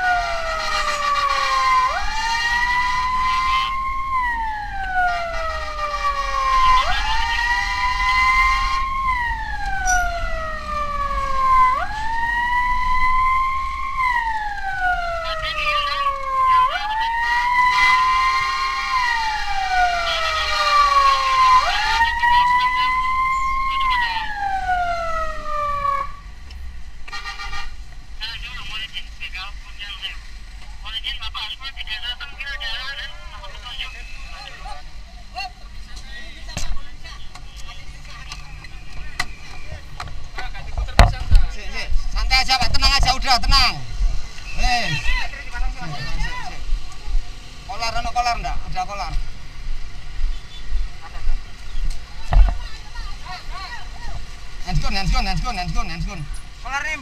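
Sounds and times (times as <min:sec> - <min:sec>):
emergency vehicle siren wailing: 0:00.0 - 0:26.4, 0:30.8 - 0:57.0.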